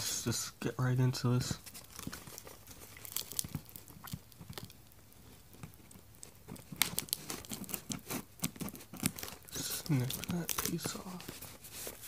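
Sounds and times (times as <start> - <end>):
packaging crinkling and rustling: 1.2 - 12.0.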